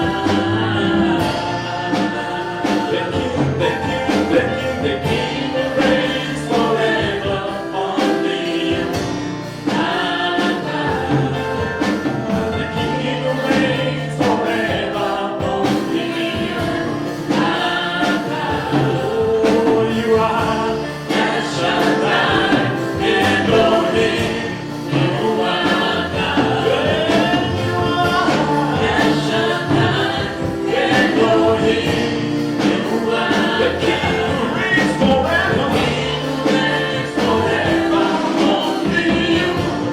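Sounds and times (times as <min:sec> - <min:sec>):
choir singing gospel: 0:00.0 - 0:39.9
steady beat: 0:00.0 - 0:39.9.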